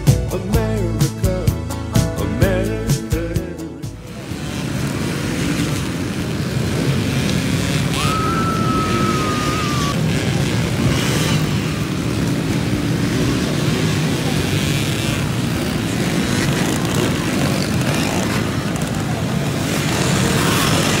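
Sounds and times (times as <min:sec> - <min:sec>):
many small motorcycle engines: 0:00.0 - 0:21.0.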